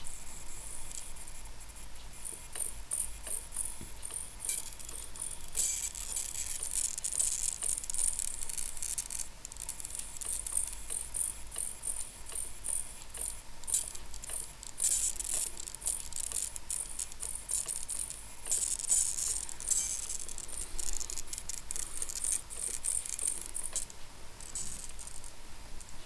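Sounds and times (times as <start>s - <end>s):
servo chattering rattle: 2.2s - 25.3s.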